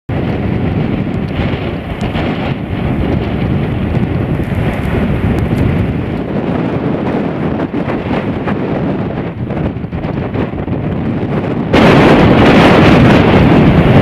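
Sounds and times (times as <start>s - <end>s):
gusty wind buffeting microphone: 0.1s - 14.0s.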